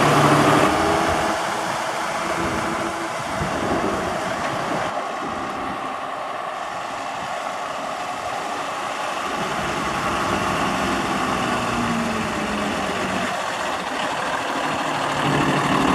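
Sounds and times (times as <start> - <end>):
diesel truck engine running: 0.0 - 15.9.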